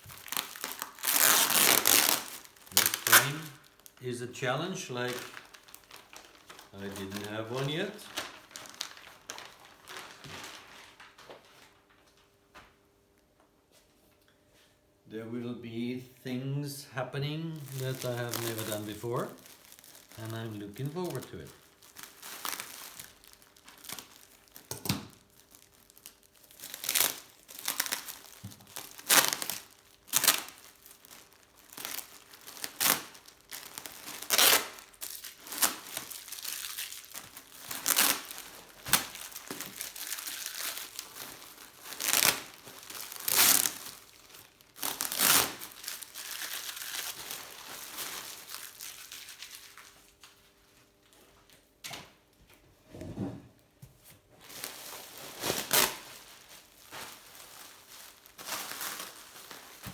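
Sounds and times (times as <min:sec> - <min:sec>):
crinkling and rustling: 0:00.0 - 0:12.8, 0:17.3 - 0:59.9.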